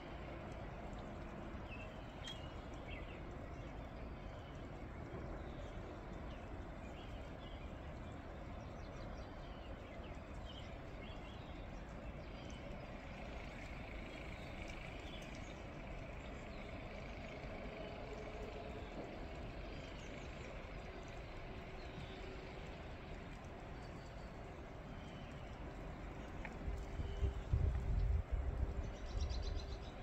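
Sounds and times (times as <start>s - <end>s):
snowstorm rumble and hiss: 0.0s - 30.0s.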